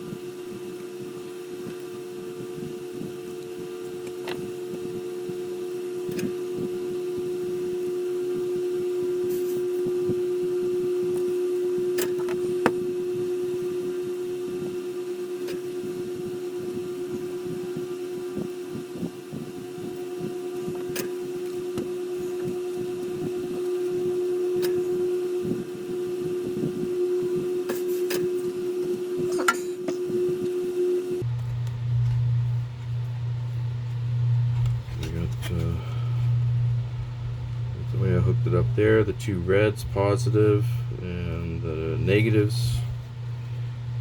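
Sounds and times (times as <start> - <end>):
heat gun fan humming: 0.0 - 44.0.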